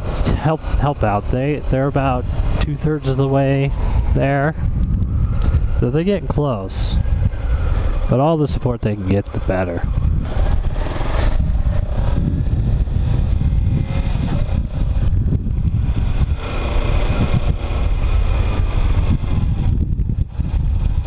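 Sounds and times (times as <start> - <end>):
motorcycle engine drone: 0.0 - 21.0
wind rush on microphone: 0.0 - 21.0.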